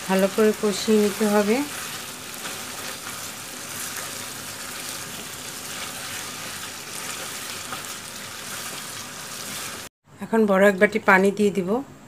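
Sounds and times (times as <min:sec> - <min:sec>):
food sizzling in a frying pan: 0:00.0 - 0:09.9
spatula stirring in a pan: 0:00.0 - 0:09.9.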